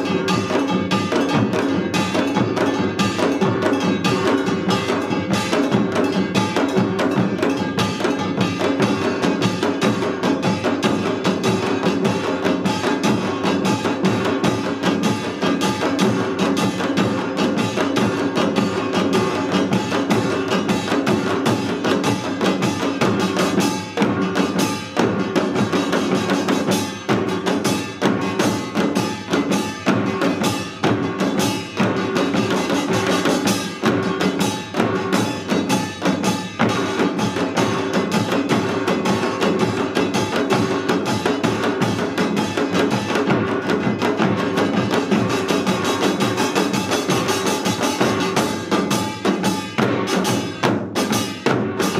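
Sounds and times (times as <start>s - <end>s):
barrel drums: 0.0s - 51.9s
hourglass drums: 0.0s - 51.9s
small gongs clanging: 0.0s - 51.9s.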